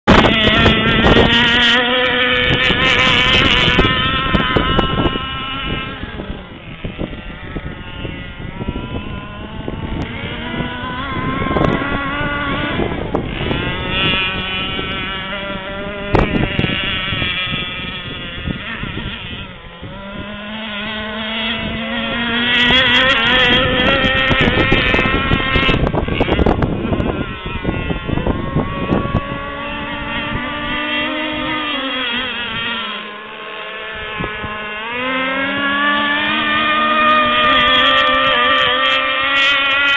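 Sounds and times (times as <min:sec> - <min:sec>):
model boat motor whining: 0:00.0 - 0:39.9.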